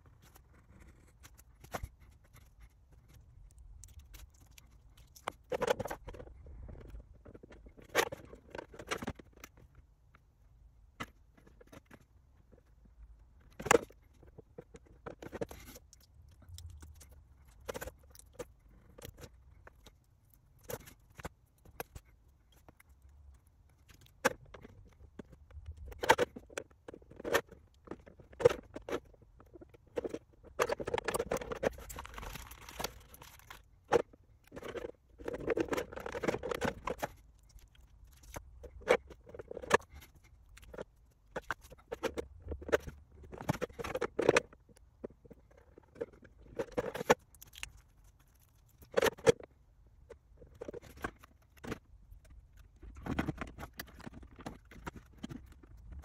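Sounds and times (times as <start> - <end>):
rustling and scraping: 0.0 - 10.3, 10.9 - 56.0.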